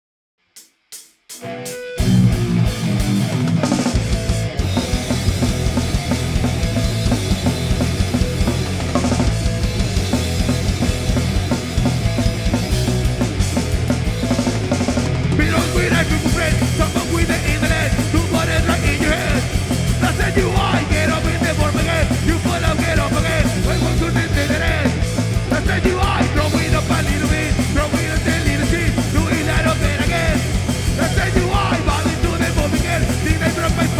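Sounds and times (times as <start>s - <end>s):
punk rock band playing live: 1.3s - 33.9s.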